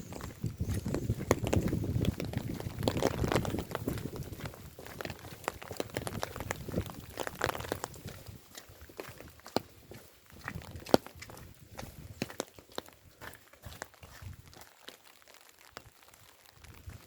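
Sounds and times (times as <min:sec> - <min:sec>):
footsteps on wet street: 0:00.0 - 0:17.0.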